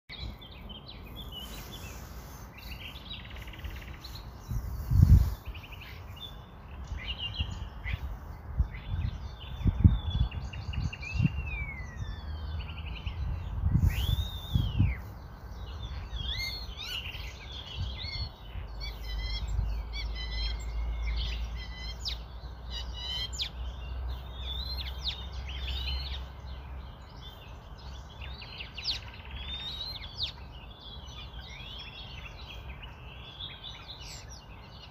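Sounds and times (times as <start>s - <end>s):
birds chirping and singing: 0.1s - 34.9s.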